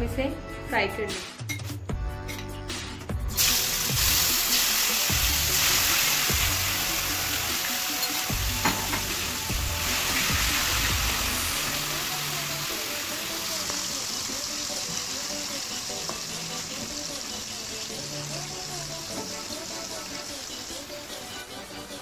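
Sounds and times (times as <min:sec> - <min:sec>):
chicken sizzling in hot oil: 0:03.3 - 0:22.0.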